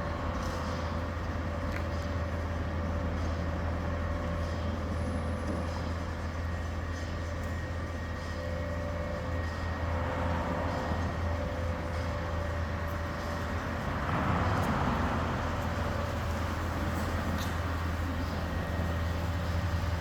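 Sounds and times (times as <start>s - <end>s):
truck engine rumble: 0.0s - 20.0s.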